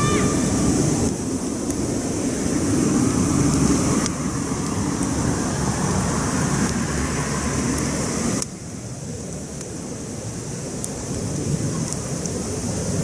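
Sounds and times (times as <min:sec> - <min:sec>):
campfire crackles: 0:00.0 - 0:13.0
campfire low rumble: 0:00.0 - 0:13.0.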